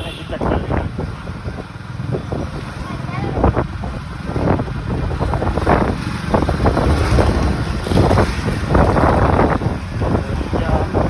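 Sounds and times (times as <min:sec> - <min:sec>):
road traffic rumble: 0:00.0 - 0:11.0
vehicles surging past: 0:00.0 - 0:11.0
wind buffeting microphone: 0:00.0 - 0:11.0.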